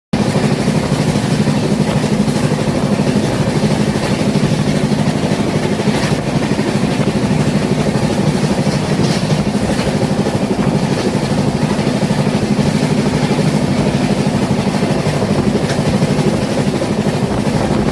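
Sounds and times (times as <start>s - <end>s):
train rumbling: 0.2s - 17.9s.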